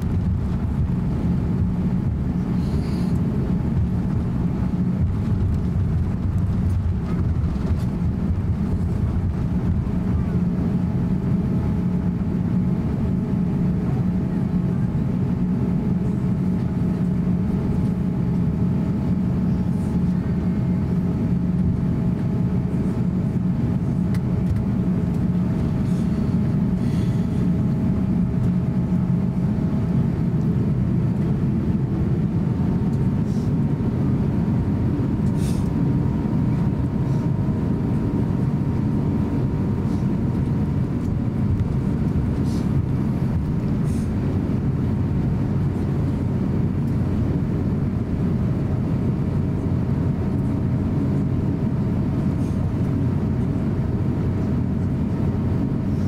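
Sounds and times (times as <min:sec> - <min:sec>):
airplane cabin low rumble: 0:00.0 - 0:56.0
faint steady whine: 0:00.0 - 0:56.0.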